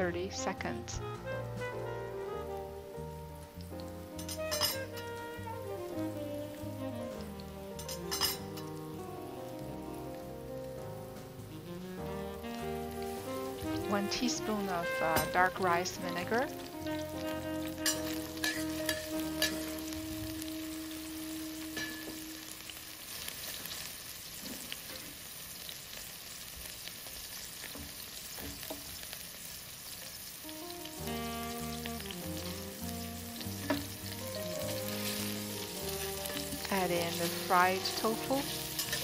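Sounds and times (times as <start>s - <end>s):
background music: 0.0s - 22.9s, 30.4s - 39.0s
food sizzling in hot oil: 0.0s - 39.0s.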